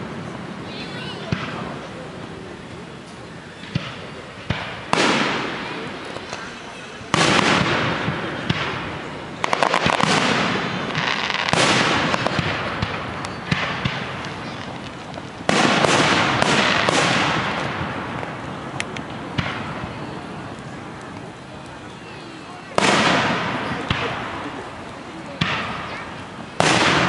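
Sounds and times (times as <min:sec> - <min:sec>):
firework crackling: 0:00.0 - 0:27.0
firework booms: 0:01.2 - 0:01.8, 0:03.6 - 0:06.4, 0:07.1 - 0:21.1, 0:22.7 - 0:27.0
sharp firework cracks: 0:03.6 - 0:21.8, 0:22.6 - 0:27.0.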